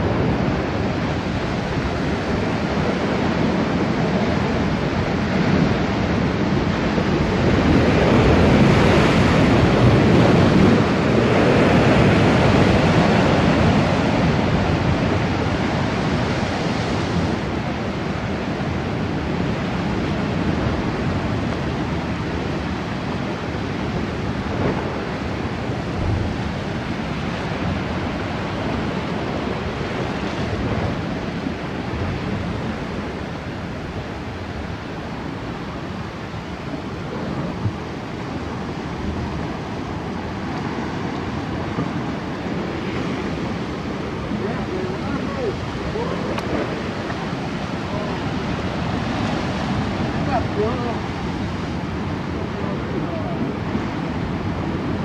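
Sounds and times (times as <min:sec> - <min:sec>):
surf breaking on rocky shore: 0:00.0 - 0:55.0
wind buffeting microphone: 0:00.0 - 0:55.0.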